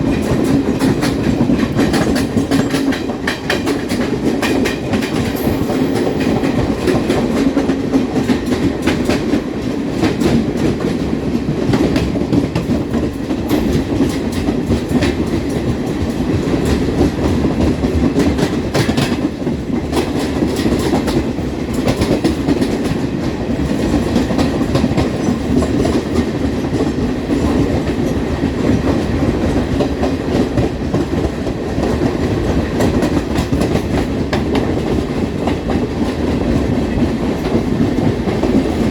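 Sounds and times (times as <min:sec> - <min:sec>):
clickety-clack of rail joints: 0:00.0 - 0:38.9
train wheels rumbling on rail: 0:00.0 - 0:38.9.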